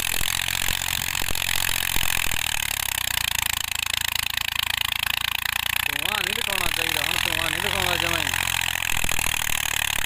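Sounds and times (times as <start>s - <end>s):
tractor engine rumbling: 0.0s - 10.0s.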